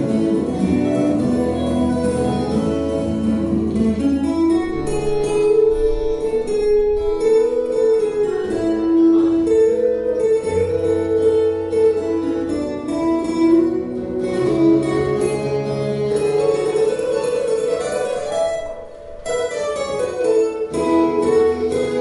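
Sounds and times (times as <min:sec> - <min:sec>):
acoustic guitar duet: 0:00.0 - 0:22.0.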